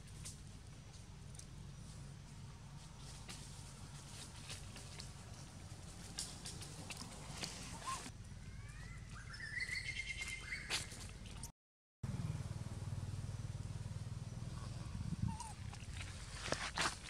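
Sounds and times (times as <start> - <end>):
low steady rumble: 0.0 - 9.5, 12.0 - 17.0.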